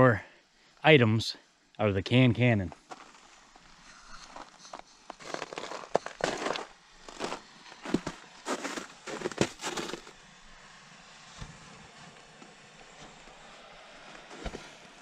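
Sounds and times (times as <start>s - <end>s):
crunching and rustling in snow: 2.8s - 15.0s.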